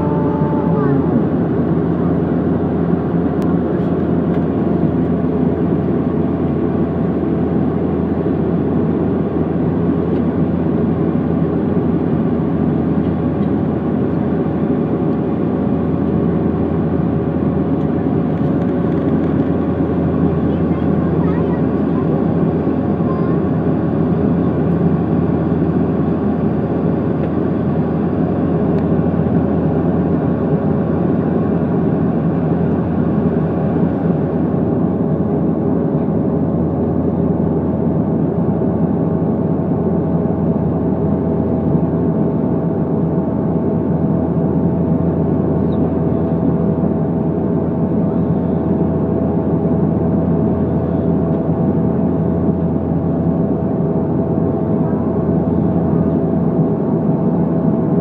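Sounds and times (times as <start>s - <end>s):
jet engine drone: 0.0s - 58.0s
steady humming tones: 0.0s - 58.0s.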